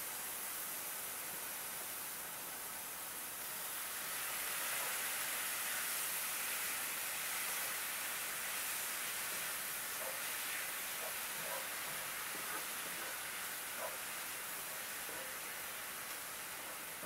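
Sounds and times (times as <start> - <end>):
noodles sizzling in a skillet: 0.0 - 17.0.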